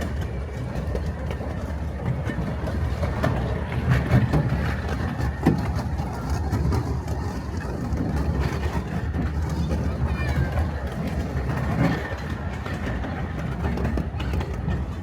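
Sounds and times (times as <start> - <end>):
miniature train rumbling: 0.0 - 15.0
wheels clicking on rails: 0.0 - 15.0.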